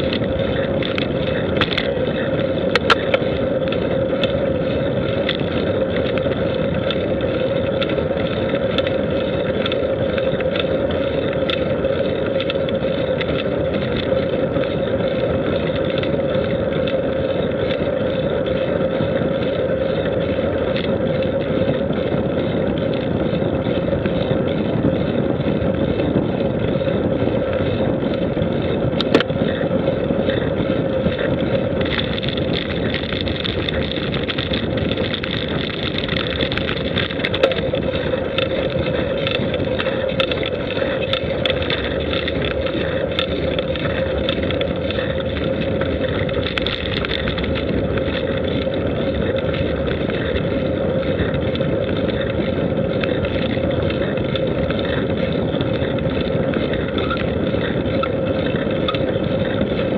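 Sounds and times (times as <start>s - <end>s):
vehicle driving on paved road: 0.0s - 59.9s.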